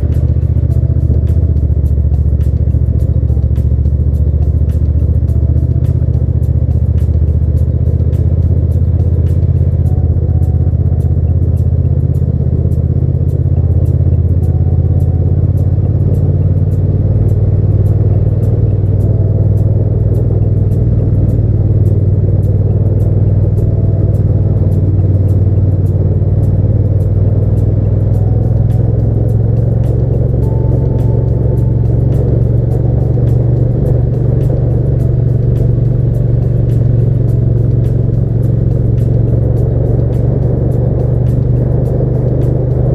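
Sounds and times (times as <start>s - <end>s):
background music with ticking beat: 0.0s - 42.9s
motorcycle engine drone: 0.0s - 42.9s.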